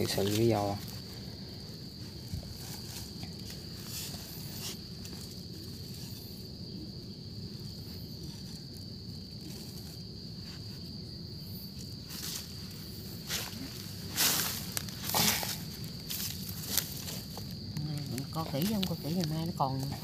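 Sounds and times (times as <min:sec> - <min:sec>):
insect trilling: 0:00.0 - 0:20.0
rustling in dry leaves and soil: 0:00.0 - 0:20.0.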